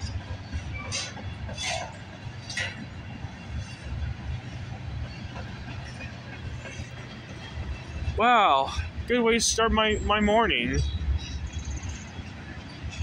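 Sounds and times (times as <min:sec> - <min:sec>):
freight train wheels on rails: 0:00.0 - 0:13.0.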